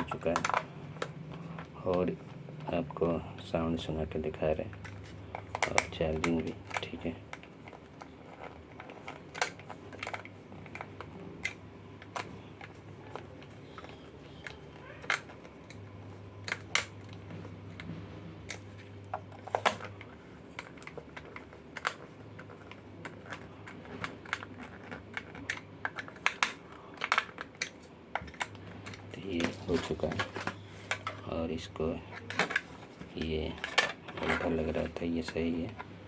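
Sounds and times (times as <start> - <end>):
small parts clicking and tapping: 0.0 - 2.9, 4.5 - 31.3, 32.1 - 36.0.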